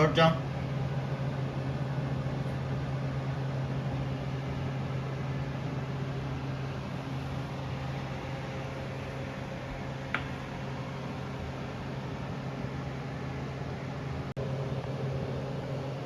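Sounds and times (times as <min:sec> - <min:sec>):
blower humming with rushing air: 0:00.0 - 0:16.0.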